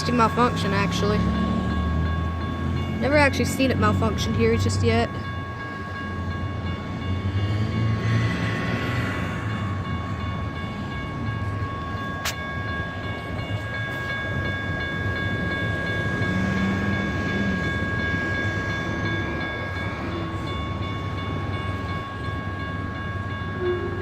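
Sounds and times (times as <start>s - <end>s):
electronic crossing bell ringing: 0.0s - 24.0s
road traffic passing: 0.0s - 24.0s.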